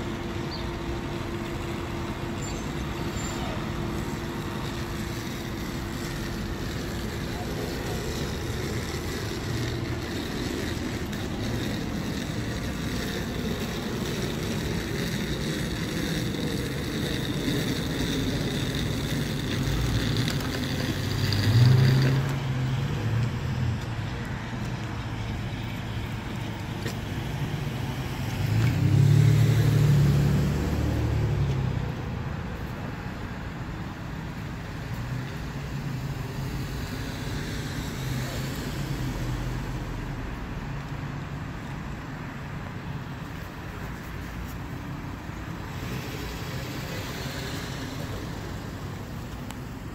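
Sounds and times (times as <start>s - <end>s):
vehicle engines rumbling: 0.0s - 49.9s.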